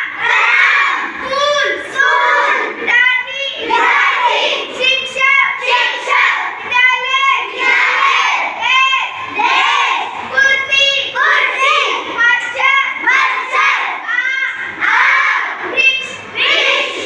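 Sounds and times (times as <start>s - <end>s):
children chanting in unison: 0.0s - 17.0s.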